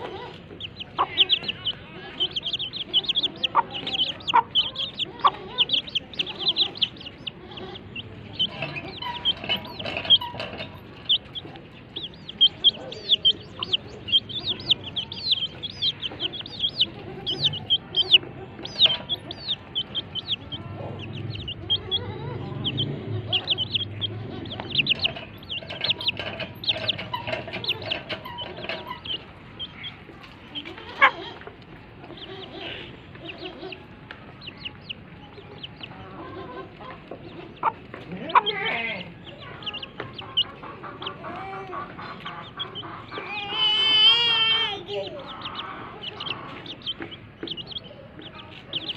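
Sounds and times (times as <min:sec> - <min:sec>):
baby chicks cheeping: 0:00.0 - 0:48.9
hen clucking: 0:00.0 - 0:48.9.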